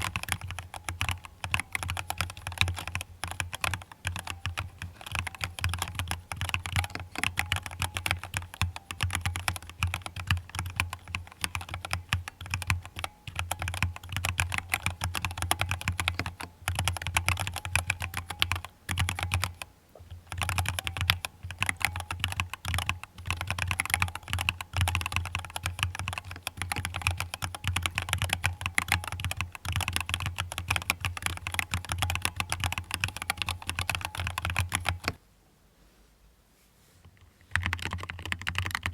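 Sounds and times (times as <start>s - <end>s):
fast typing on mechanical keyboard: 0.0s - 35.2s, 37.4s - 38.9s.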